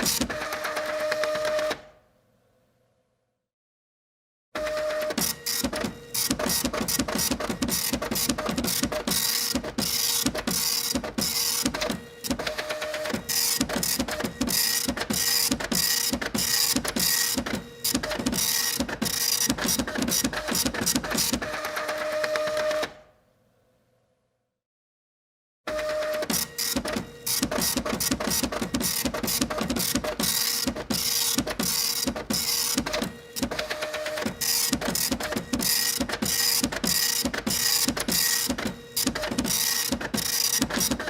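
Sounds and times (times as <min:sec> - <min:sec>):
printer printing: 0:00.0 - 0:02.0, 0:04.6 - 0:23.1, 0:25.7 - 0:41.0.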